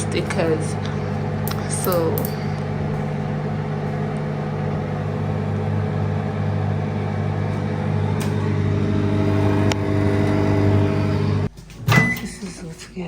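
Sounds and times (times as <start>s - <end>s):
microwave oven humming: 0.0s - 12.6s.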